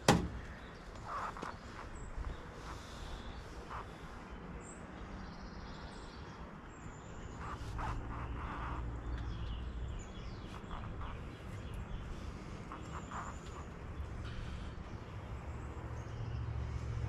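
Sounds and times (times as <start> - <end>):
faint bird chirps: 0.4 - 17.0.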